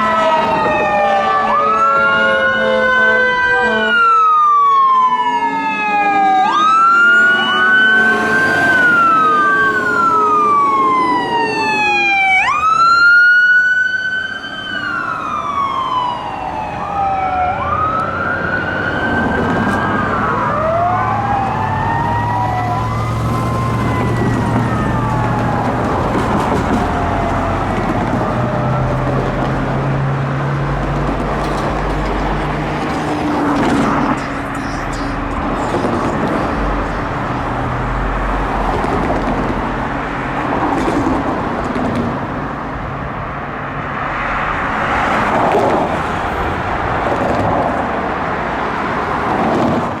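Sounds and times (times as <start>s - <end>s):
electronic sirens wailing: 0.0s - 43.6s
heavy diesel engines rumbling: 0.0s - 50.0s
road traffic: 0.0s - 50.0s.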